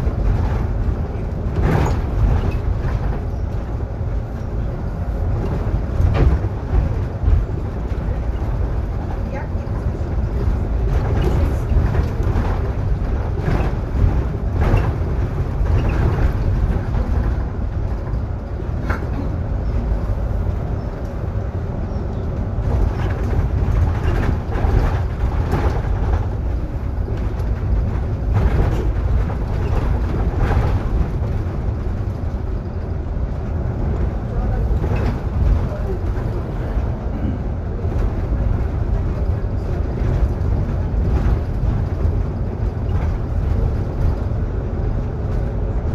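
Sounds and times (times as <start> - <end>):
bus drivetrain and road rumble: 0.0 - 45.9.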